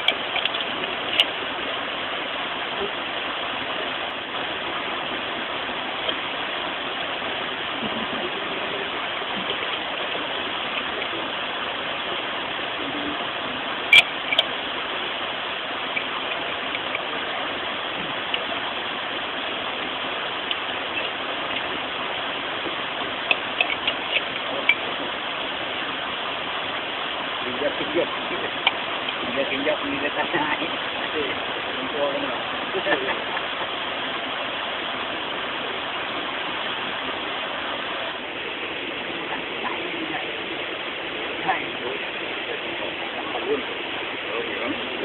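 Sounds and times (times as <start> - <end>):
stream water rushing: 0.0 - 45.0.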